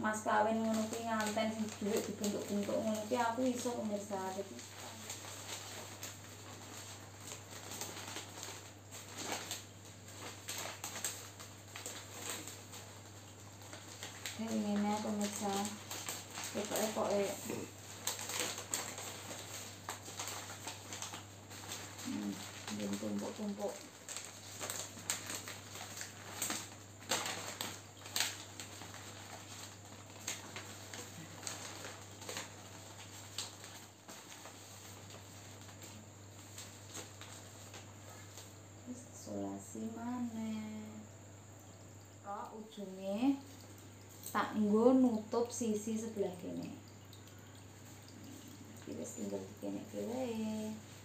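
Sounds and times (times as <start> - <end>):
low steady hum: 0.0 - 51.0
wrapping paper rustling and crinkling: 0.1 - 41.0, 43.3 - 51.0.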